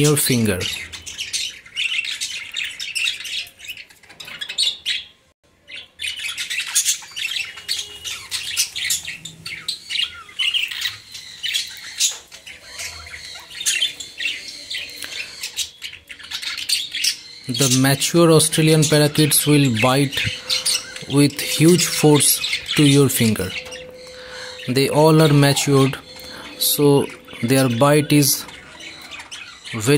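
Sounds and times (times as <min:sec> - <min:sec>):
budgerigars chattering and squawking: 0:00.0 - 0:29.9.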